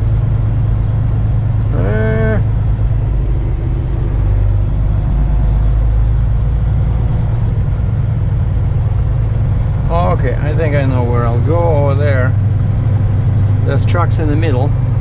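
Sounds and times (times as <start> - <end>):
truck diesel engine low hum: 0.0 - 15.0.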